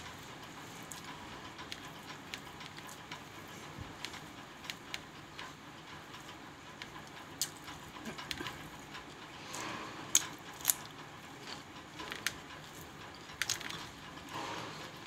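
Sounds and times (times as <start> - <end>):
faint chewing and mouth sounds: 0.0 - 15.0.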